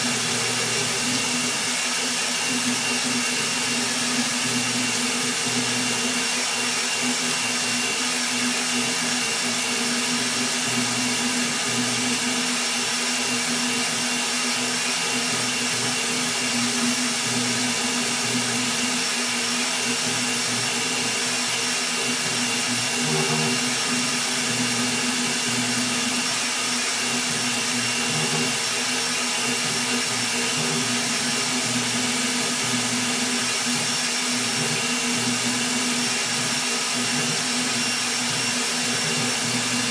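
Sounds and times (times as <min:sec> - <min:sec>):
printer fan and motors whirring: 0:00.0 - 0:39.9.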